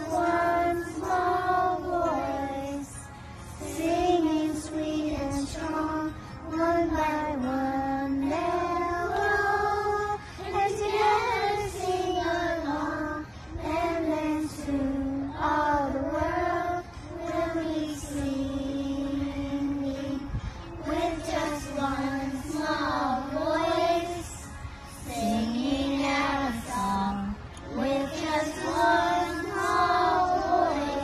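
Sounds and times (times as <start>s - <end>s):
children singing in unison: 0.0s - 31.0s.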